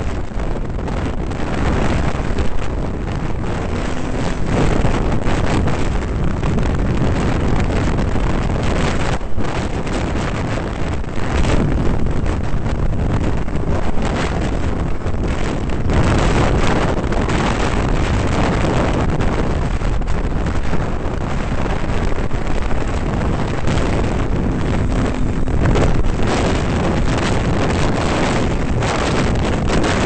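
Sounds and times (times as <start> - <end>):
snowmobile engine running: 0.0 - 30.0
wind buffeting microphone: 0.0 - 30.0.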